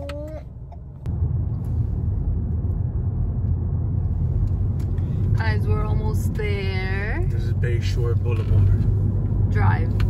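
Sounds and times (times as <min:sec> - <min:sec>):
car rumbling on road: 0:00.0 - 0:10.0.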